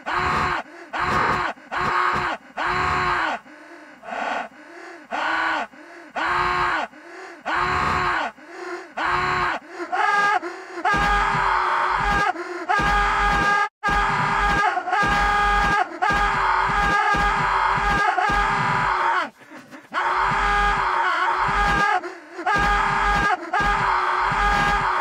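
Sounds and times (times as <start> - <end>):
cartoon man screaming in pain: 0.0 - 3.4, 5.2 - 6.9, 7.5 - 8.4, 9.0 - 25.0.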